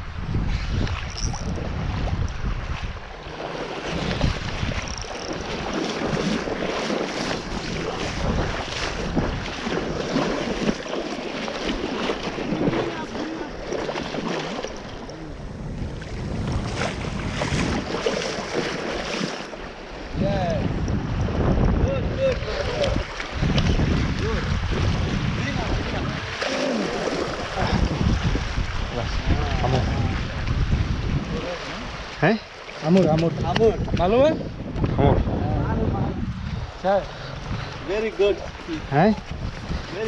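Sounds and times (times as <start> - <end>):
wind buffeting microphone: 0.0 - 40.0
water splashing: 0.8 - 35.0
shallow sea water sloshing: 0.9 - 21.3, 22.4 - 34.8.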